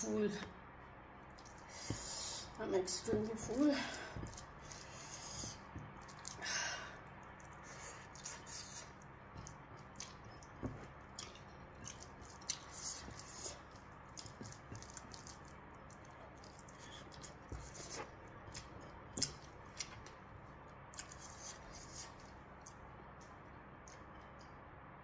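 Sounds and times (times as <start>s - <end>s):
fingers squishing food in bowl: 0.4s - 24.8s
chewing: 1.2s - 2.5s, 3.9s - 6.4s, 7.0s - 24.5s.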